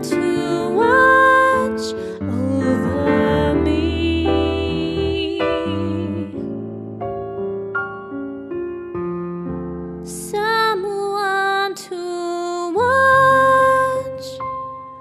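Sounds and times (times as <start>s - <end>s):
solo piano playing: 0.0s - 15.0s.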